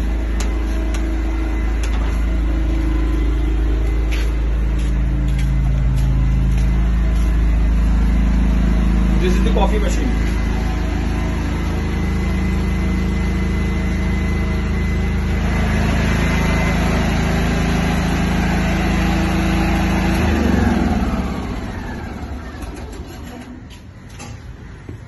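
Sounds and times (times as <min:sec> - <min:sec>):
portable generator running: 0:00.0 - 0:25.0.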